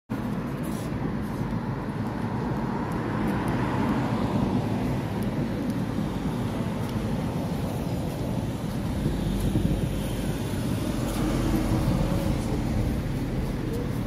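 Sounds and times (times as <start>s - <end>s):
cars driving past: 0.2s - 14.0s.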